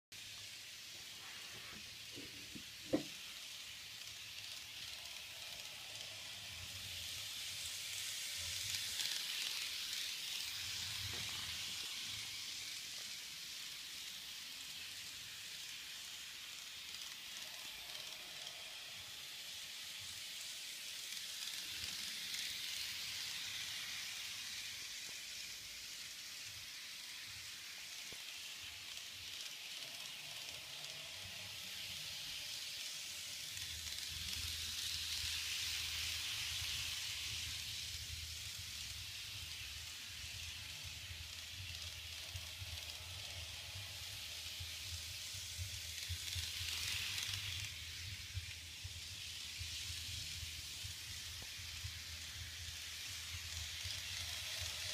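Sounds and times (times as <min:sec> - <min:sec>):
small wheels rolling on track: 0:00.2 - 0:54.9.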